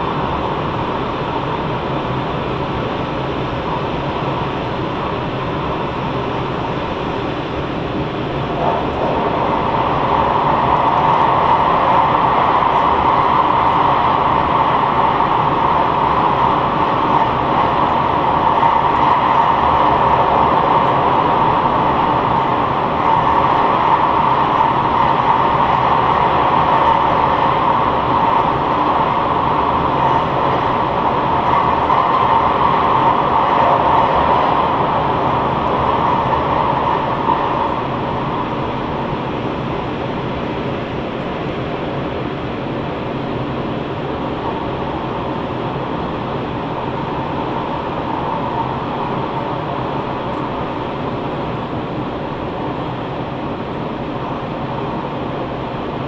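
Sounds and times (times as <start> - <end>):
moving vehicle running noise: 0.0 - 56.0.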